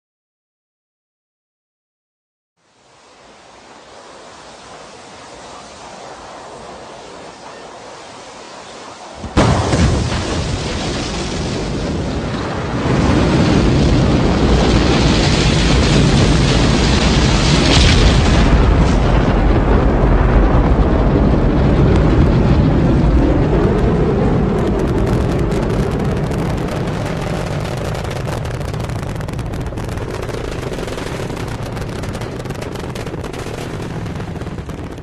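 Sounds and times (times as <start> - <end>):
rocket exhaust rumble and crackling: 3.0 - 35.0.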